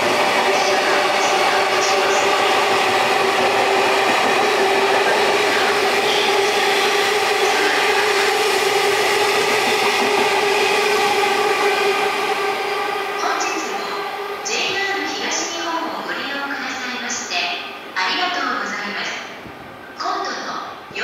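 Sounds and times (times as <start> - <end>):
freight train rumbling past: 0.0 - 18.3.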